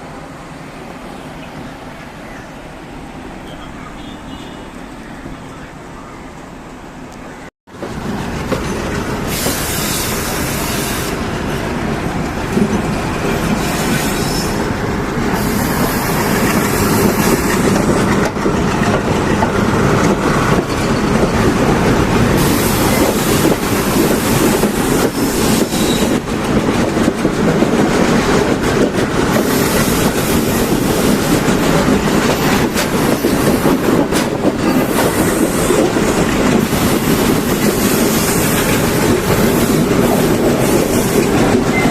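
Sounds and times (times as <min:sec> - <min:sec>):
train rumbling on rails: 0:00.0 - 0:41.9.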